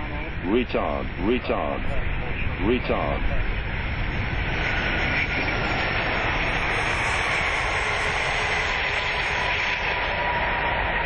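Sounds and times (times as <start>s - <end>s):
aircraft engine noise: 0.0s - 11.0s
airflow rush: 0.0s - 11.0s.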